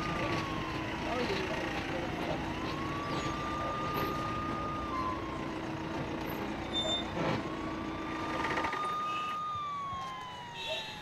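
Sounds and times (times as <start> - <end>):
police siren wailing: 0.0 - 11.0
vehicle engine hum: 0.0 - 11.0.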